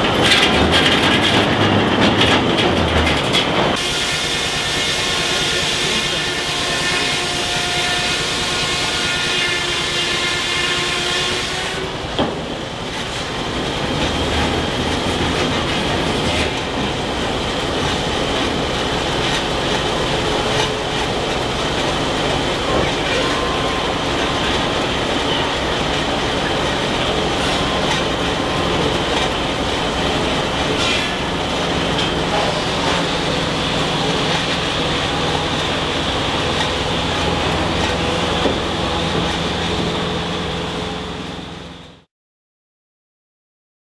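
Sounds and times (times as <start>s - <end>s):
sawmill machinery running: 0.0s - 42.1s.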